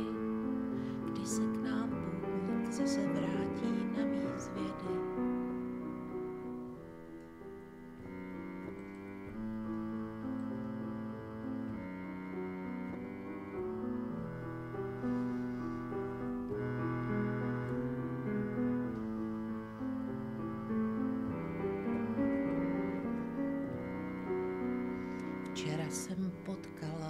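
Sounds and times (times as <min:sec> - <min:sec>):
instrumental piano music: 0:00.0 - 0:27.0.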